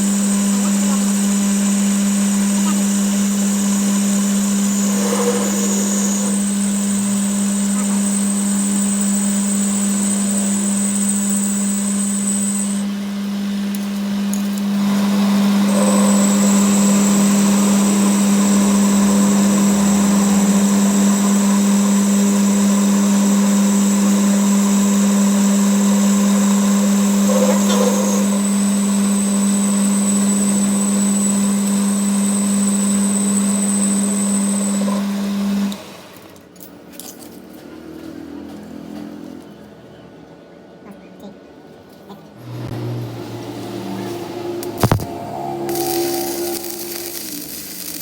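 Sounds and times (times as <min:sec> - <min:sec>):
electric workshop machine humming: 0:00.0 - 0:36.4, 0:42.4 - 0:48.0.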